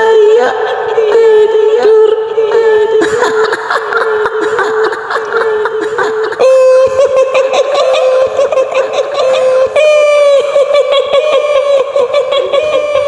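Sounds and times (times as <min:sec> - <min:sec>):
woman laughing high-pitched: 0:00.0 - 0:13.0.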